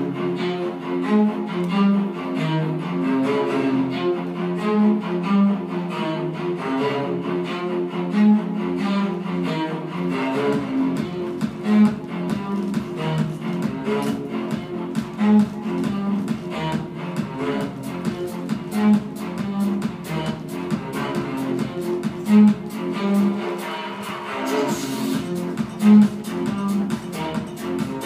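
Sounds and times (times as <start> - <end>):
instrumental music with low held notes: 0.0 - 28.0.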